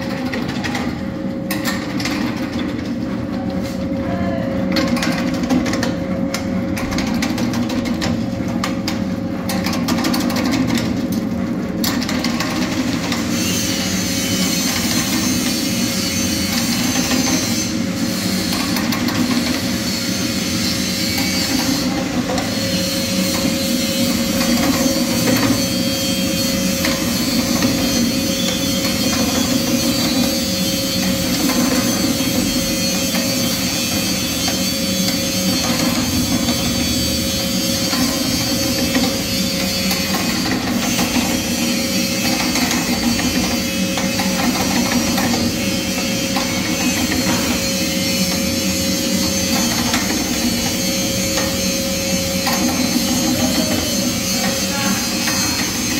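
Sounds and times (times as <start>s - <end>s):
nut cutting machine humming: 0.0s - 55.9s.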